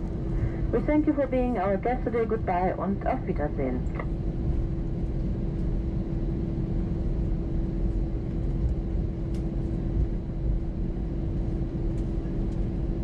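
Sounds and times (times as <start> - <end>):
jet engines idling rumble: 0.0 - 13.0
steady cabin hum: 0.0 - 13.0.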